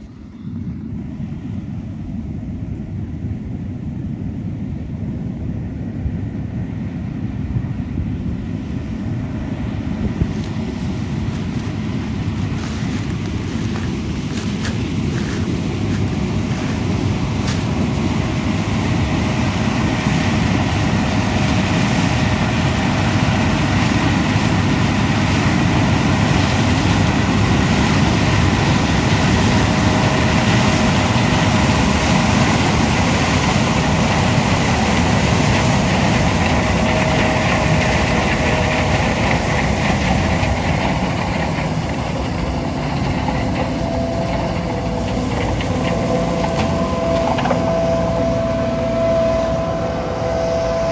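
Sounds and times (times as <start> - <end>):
diesel engine drone: 0.0 - 50.9.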